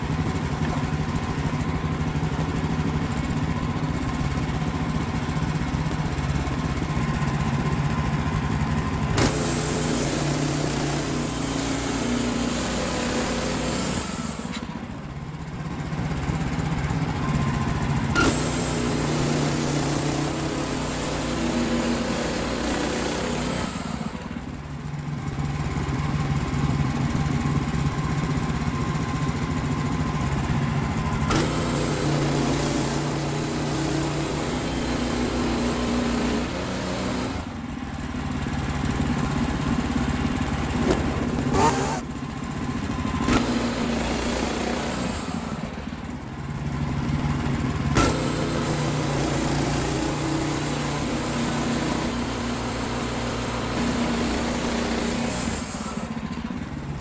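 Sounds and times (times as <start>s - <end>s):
band sawmill cutting log: 0.0s - 15.1s, 15.7s - 24.8s, 26.2s - 57.0s.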